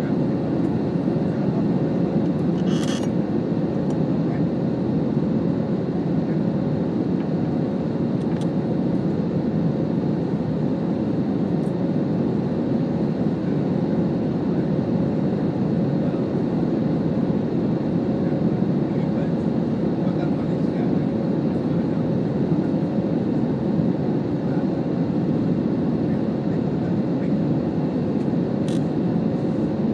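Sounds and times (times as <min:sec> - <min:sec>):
airliner cabin engine roar: 0:00.0 - 0:29.9.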